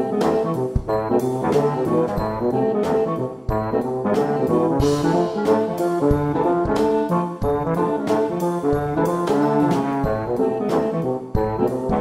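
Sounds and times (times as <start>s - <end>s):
jazzy brass instrumental music: 0.0s - 12.0s.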